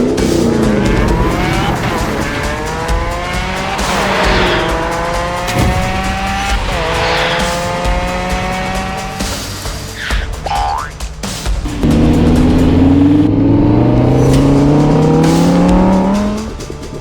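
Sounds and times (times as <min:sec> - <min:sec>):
engine revving whine: 0:00.0 - 0:10.1, 0:11.7 - 0:17.0
background music: 0:00.0 - 0:17.0.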